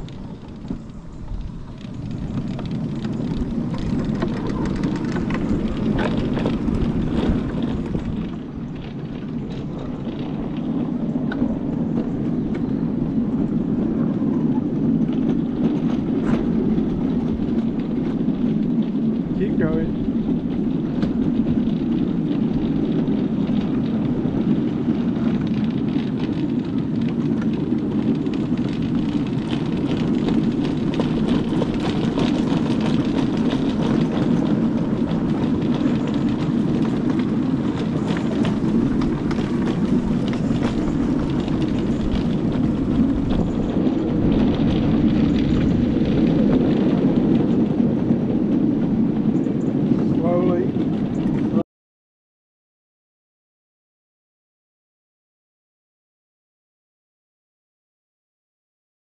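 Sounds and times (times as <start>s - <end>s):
miniature train rumbling: 0.0s - 51.6s.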